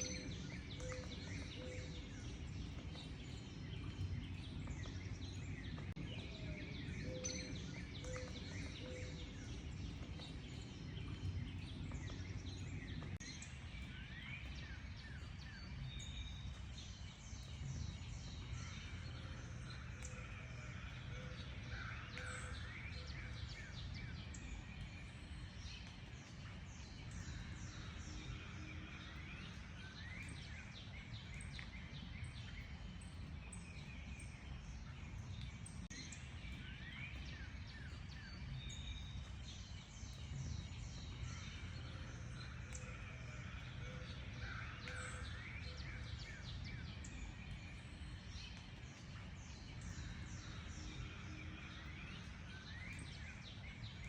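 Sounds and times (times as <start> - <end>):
wild birds singing and calling: 0.0 - 54.0.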